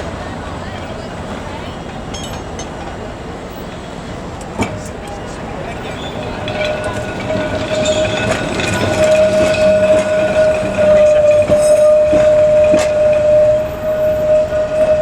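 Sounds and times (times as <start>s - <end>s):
electric tram whine: 0.0s - 15.0s
tram wheels clicking: 0.0s - 15.0s.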